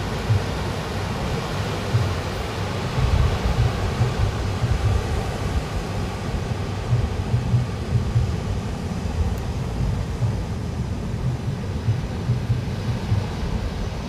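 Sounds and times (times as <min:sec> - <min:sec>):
sea surf: 0:00.0 - 0:14.0
wind buffeting microphone: 0:00.0 - 0:14.0.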